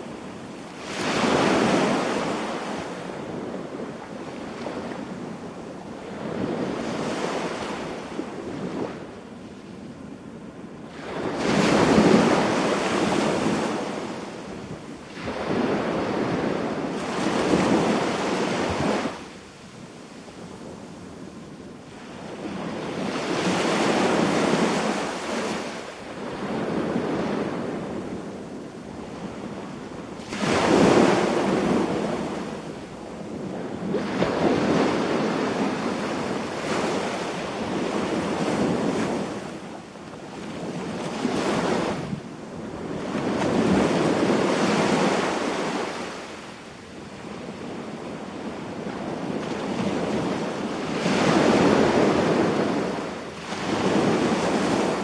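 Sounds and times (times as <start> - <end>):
sea waves breaking on beach: 0.0 - 9.1, 10.8 - 21.3, 21.9 - 55.0.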